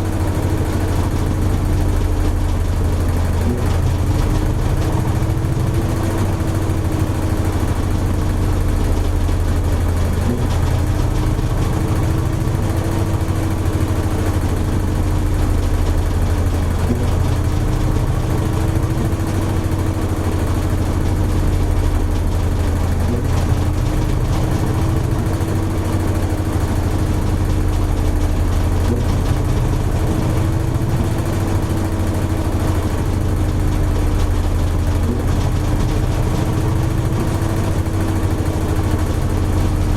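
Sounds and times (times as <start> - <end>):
washing machine spinning hum: 0.0 - 39.9.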